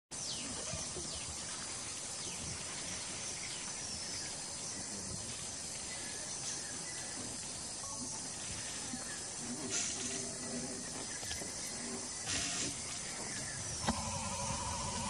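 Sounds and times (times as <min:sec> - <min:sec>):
crickets chirping: 0:00.2 - 0:15.0.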